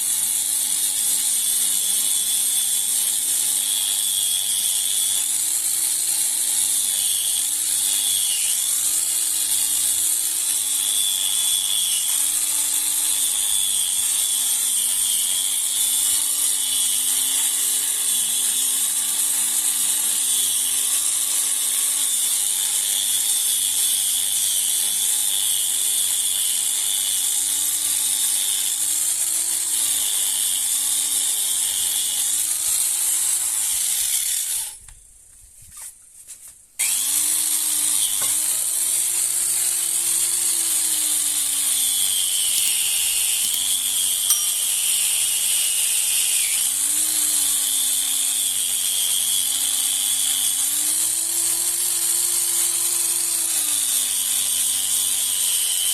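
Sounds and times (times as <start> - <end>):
electric power tool running: 0.0 - 32.8, 36.8 - 55.9.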